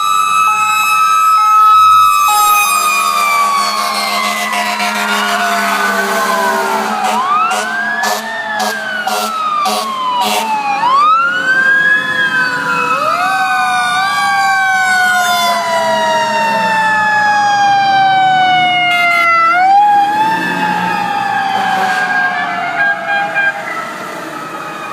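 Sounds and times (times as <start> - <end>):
fire truck sirens wailing: 0.0 - 24.9.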